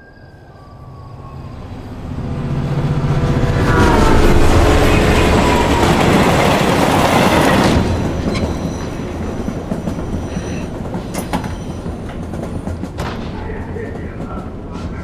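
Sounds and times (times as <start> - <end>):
train passing at speed: 0.0 - 15.0
train rumble inside carriage: 0.0 - 15.0.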